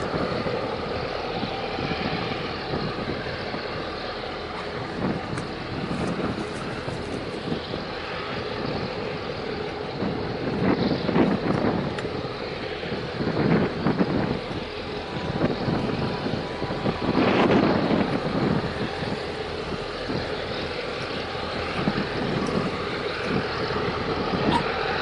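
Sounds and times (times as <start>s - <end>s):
rushing swells of noise: 0.0s - 25.0s
ship engines rumbling: 0.0s - 25.0s
wind buffeting microphone: 0.0s - 25.0s.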